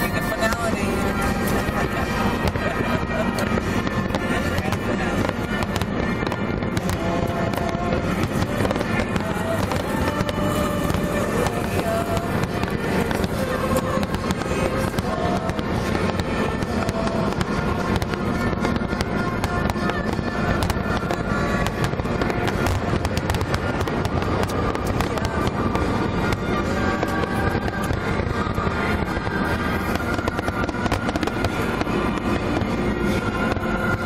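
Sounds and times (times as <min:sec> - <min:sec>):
fireworks bursting: 0:00.0 - 0:34.0
music playing: 0:00.0 - 0:34.0.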